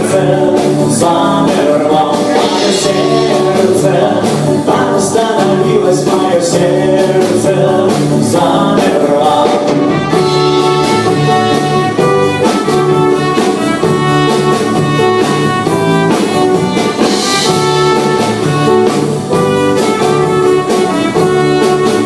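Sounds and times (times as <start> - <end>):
drums: 0.0 - 22.0
live band playing: 0.0 - 22.0
repeating bass line: 0.0 - 22.0.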